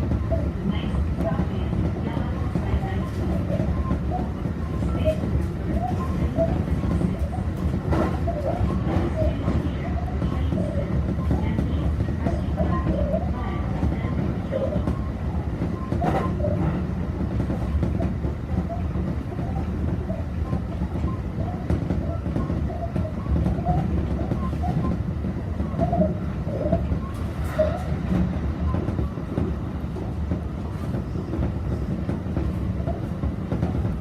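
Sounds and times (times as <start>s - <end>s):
train running gear rumble: 0.0s - 34.0s.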